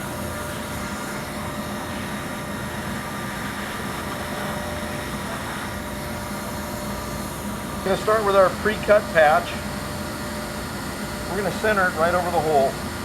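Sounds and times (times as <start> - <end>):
hot air welder blower: 0.0 - 13.0.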